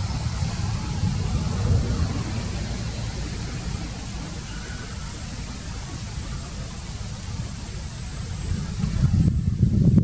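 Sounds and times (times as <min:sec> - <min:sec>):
low rumble: 0:00.0 - 0:10.0
outdoor rushing noise: 0:00.0 - 0:10.0.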